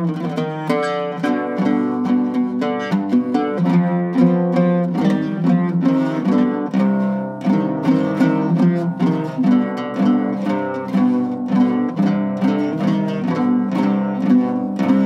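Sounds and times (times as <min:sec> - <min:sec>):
oud plucked melody: 0:00.0 - 0:15.0.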